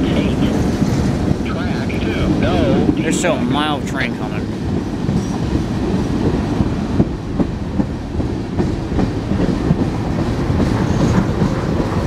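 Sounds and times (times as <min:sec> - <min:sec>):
freight train wheels rumbling: 0:00.0 - 0:12.0
wheels clickety-clack: 0:00.1 - 0:12.0.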